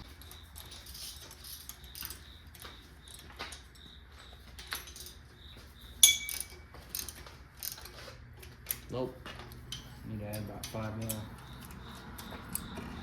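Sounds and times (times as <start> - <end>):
steel washers clinking: 0.0 - 3.8, 4.6 - 5.3, 6.0 - 13.0.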